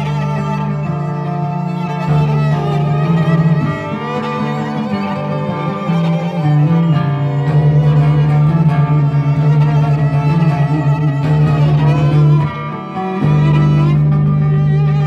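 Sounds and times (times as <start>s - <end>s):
bowed violin line: 0.0s - 15.0s
guitar playing: 0.0s - 15.0s.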